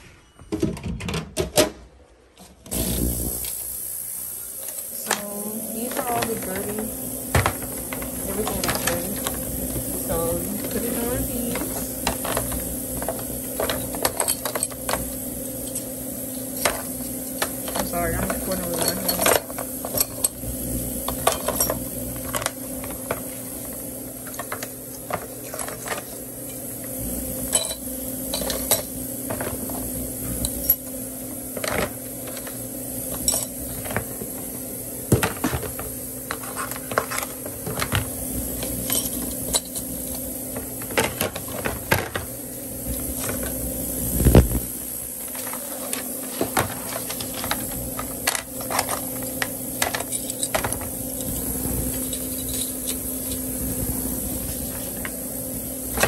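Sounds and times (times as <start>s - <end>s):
steady low hum: 2.7s - 56.0s.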